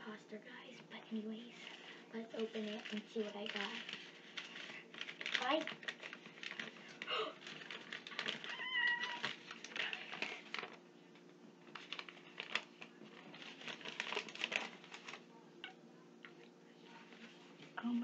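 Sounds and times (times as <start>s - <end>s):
paper rustling and crinkling: 1.3s - 15.3s, 16.8s - 18.0s.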